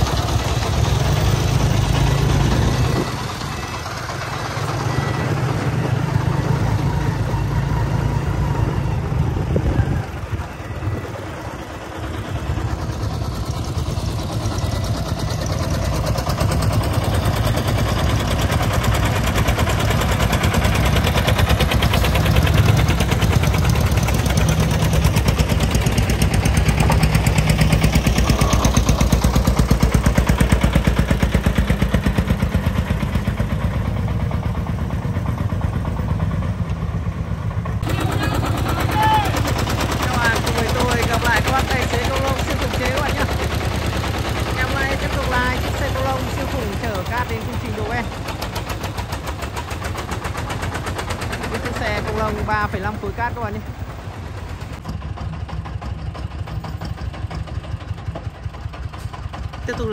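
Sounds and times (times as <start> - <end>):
diesel truck engine knocking: 0.0 - 59.9.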